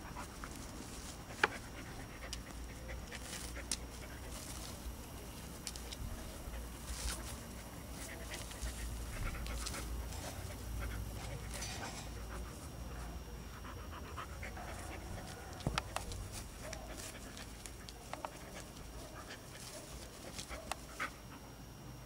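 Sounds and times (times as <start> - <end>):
dog panting: 0.0 - 21.8.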